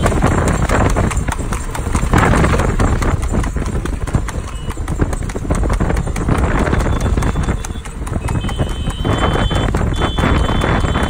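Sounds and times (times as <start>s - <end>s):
horse hooves clip-clopping on asphalt: 0.0s - 11.0s.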